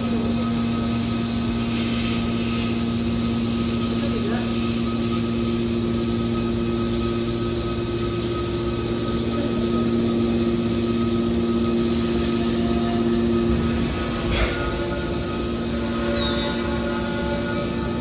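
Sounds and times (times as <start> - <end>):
baling machine humming: 0.0 - 18.0.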